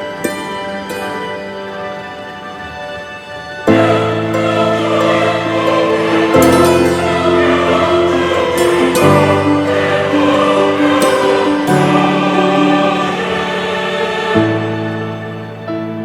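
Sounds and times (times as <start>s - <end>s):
choral background music: 0.0s - 16.0s.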